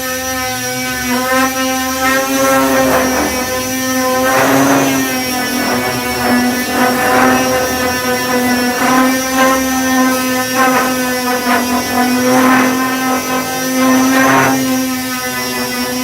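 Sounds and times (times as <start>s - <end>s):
disc sander whining: 0.0s - 16.0s.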